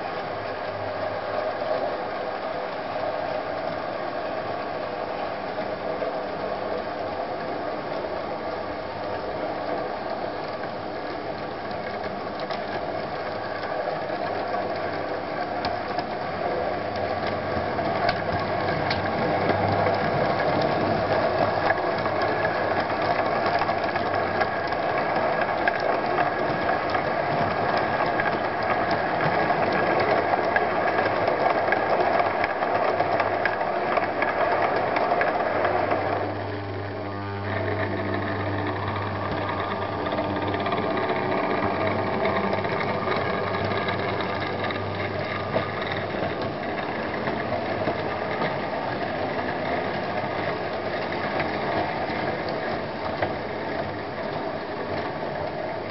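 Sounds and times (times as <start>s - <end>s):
wheels clicking over rail joints: 0.0s - 55.9s.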